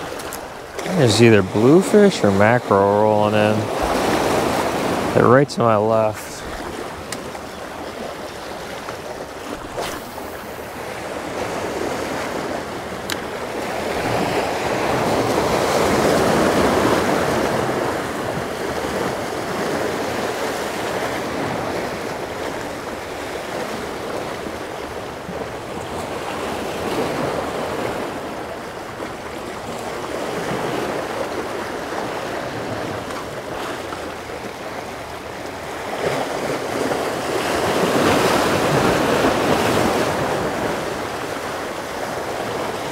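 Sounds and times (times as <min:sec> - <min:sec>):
surf washing against a jetty: 0:00.0 - 0:42.9
wind: 0:00.0 - 0:42.9.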